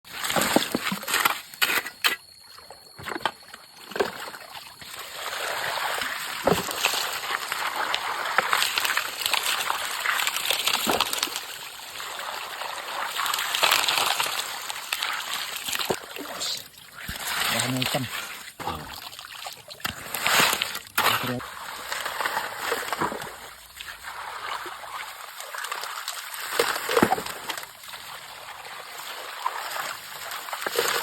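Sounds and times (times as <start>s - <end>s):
water splashing: 4.2s - 31.0s
water rushing through sluice: 4.9s - 31.0s.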